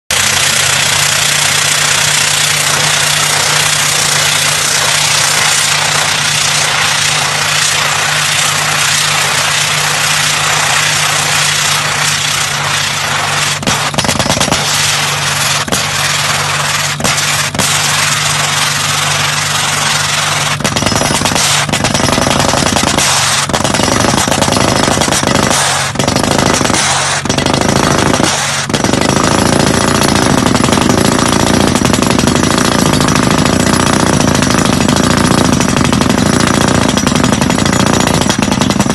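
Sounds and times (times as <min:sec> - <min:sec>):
drill percussive hammering: 0:00.1 - 0:38.9
engine hum: 0:00.1 - 0:38.9.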